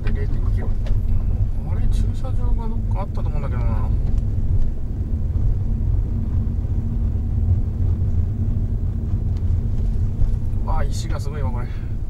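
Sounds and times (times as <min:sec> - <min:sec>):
car road and engine rumble: 0:00.0 - 0:12.0
faint steady hum: 0:00.0 - 0:12.0.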